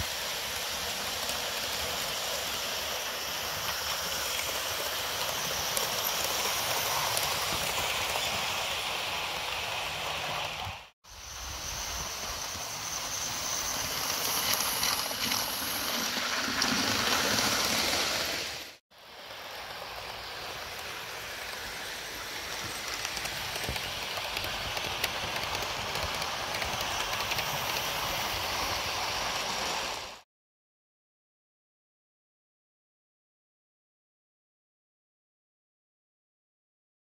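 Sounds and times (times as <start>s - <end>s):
model trains hissing rumble: 0.0s - 30.2s.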